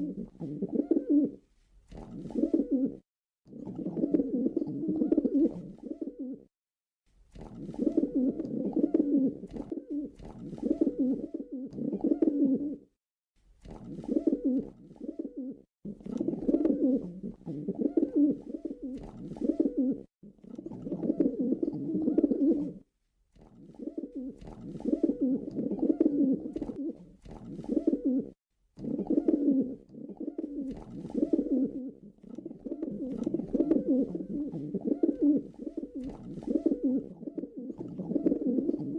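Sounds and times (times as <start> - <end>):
pigeon cooing: 0.0 - 6.5, 7.5 - 12.9, 13.8 - 22.9, 23.6 - 38.9.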